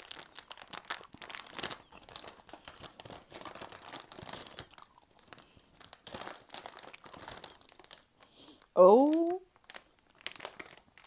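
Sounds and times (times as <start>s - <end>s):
candy packaging crinkling: 0.0s - 11.0s.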